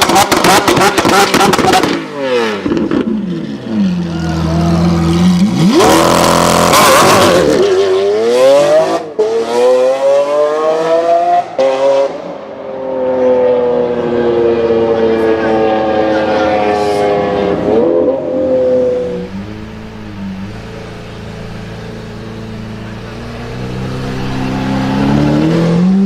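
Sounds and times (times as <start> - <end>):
sports car engine revving: 0.0 - 26.0.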